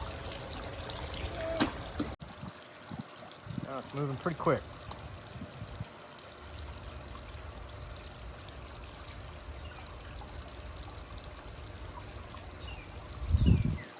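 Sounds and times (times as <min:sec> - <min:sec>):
water pouring and trickling: 0:00.0 - 0:13.9.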